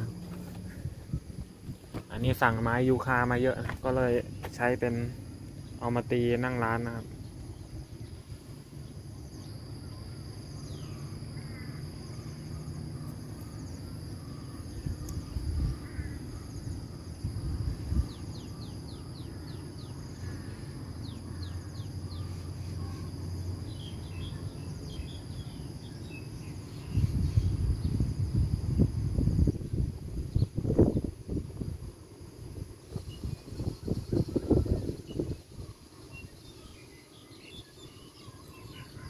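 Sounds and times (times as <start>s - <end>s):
birds chirping: 0.0s - 28.0s, 32.9s - 39.0s
insects droning: 0.0s - 39.0s
low wind rumble: 0.0s - 39.0s.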